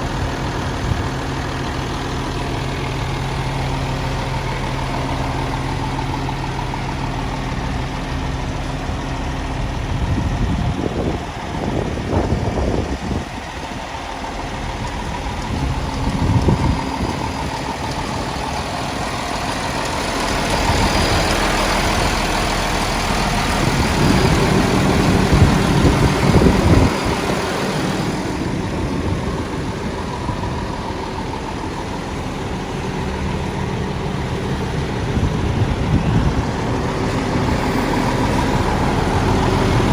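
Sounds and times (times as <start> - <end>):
garbage truck diesel engine: 0.0 - 39.9.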